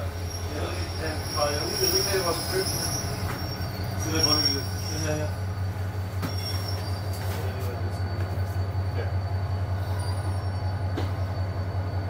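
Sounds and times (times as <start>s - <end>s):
locomotive engine idling: 0.0s - 11.8s.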